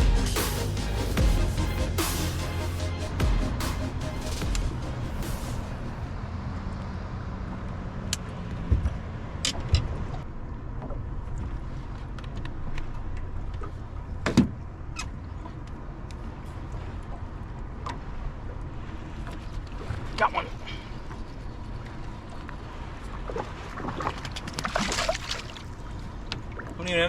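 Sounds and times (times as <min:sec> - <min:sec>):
wind and boat rumble: 0:02.6 - 0:27.0.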